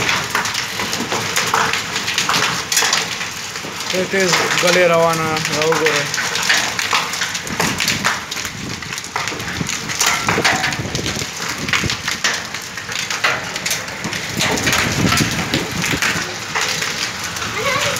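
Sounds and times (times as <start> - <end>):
heavy rain on pavement: 0.0 - 17.9.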